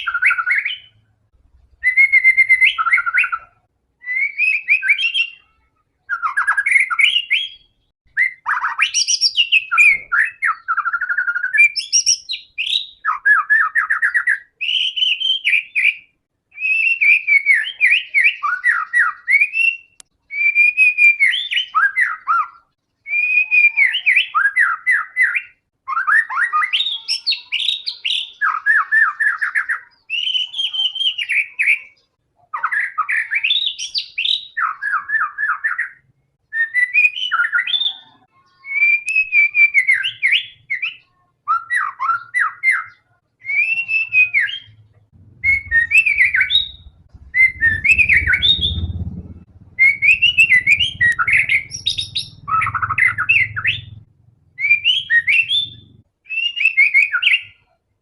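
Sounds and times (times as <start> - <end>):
bird singing whistles and trills: 0.0 - 1.0, 1.8 - 54.0, 54.6 - 57.7.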